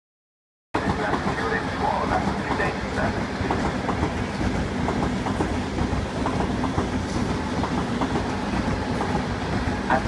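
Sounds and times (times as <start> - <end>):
train passing at speed: 0.8 - 10.0.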